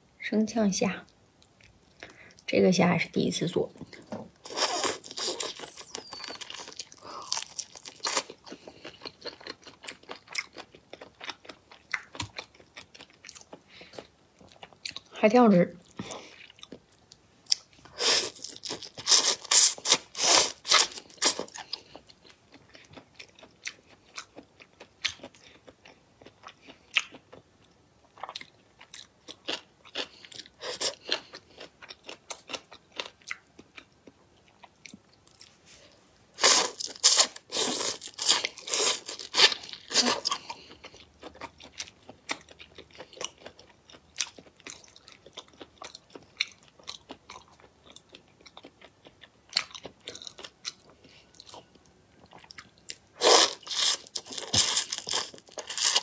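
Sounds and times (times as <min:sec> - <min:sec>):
close eating and crunching: 0:03.7 - 0:56.0.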